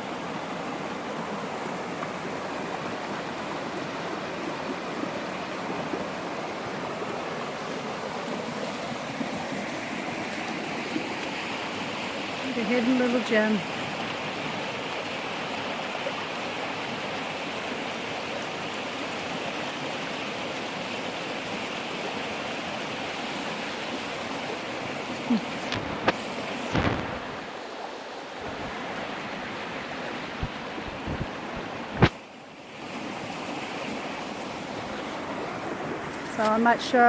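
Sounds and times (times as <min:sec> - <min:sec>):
waterfall and creek rushing: 0:00.0 - 0:37.0.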